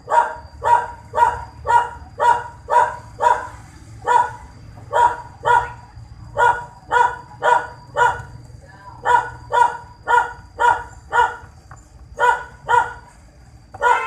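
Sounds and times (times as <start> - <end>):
dog barking: 0.0 - 5.8, 6.4 - 8.3, 9.0 - 11.5, 12.2 - 13.0, 13.8 - 14.0.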